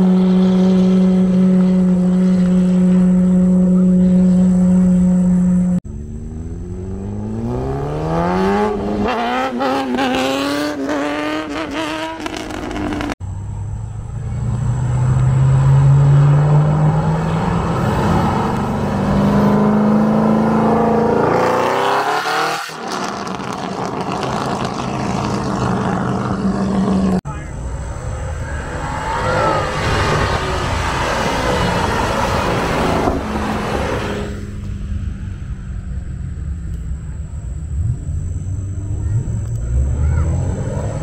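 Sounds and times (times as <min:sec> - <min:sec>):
car engines accelerating hard: 0:00.0 - 0:41.0.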